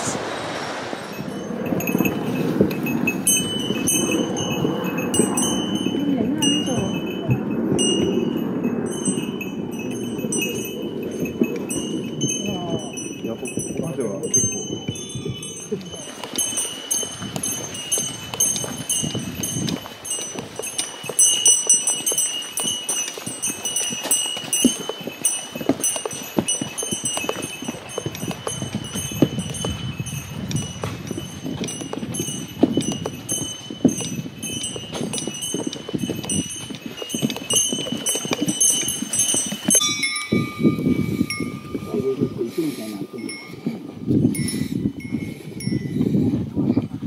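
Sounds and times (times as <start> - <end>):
high steady ringing: 0.8 - 46.4
footsteps on forest trail: 1.1 - 46.4
small bells jingling: 1.1 - 46.6.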